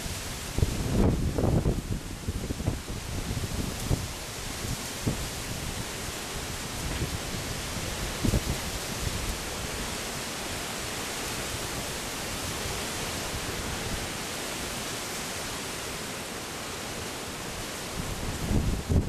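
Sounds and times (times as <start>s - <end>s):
storm wind hissing through trees: 0.0s - 19.0s.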